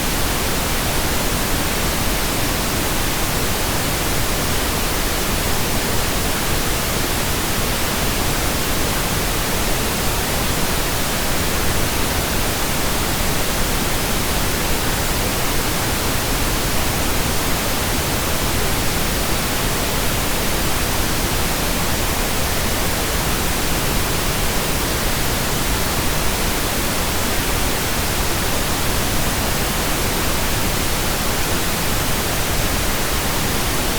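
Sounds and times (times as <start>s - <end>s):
steady pink noise hiss: 0.0s - 33.9s.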